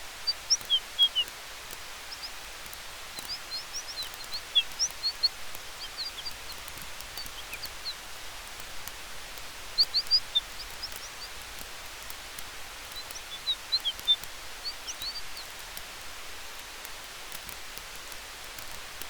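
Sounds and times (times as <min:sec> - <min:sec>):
campfire crackles: 0:00.0 - 0:19.0
wind in the trees: 0:00.0 - 0:19.0.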